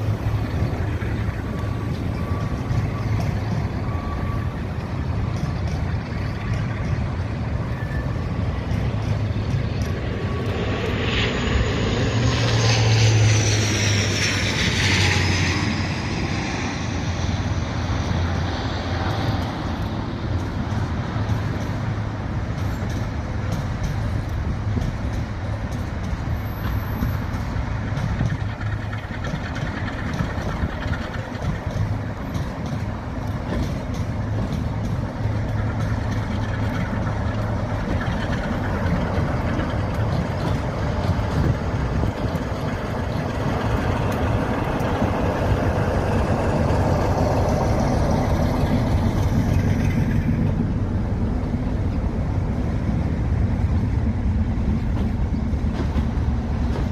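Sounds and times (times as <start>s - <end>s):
diesel locomotive engine humming: 0.0s - 56.9s
rail screeching and rumbling: 0.0s - 56.9s.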